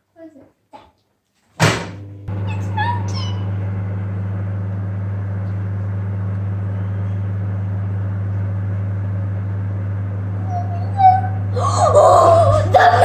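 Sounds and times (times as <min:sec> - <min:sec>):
fan whir: 0:01.7 - 0:13.0
microwave oven hum: 0:01.7 - 0:13.0.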